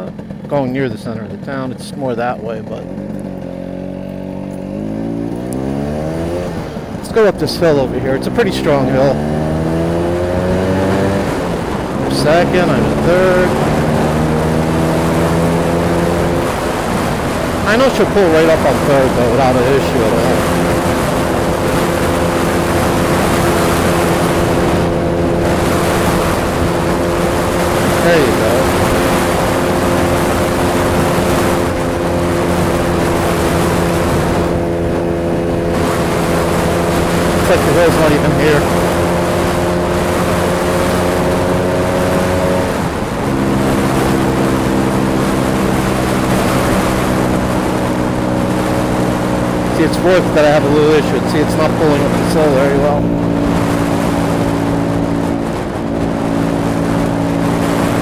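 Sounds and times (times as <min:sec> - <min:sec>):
scooter engine climbing a hill: 0:00.0 - 0:58.0
wind on microphone: 0:05.0 - 0:58.0.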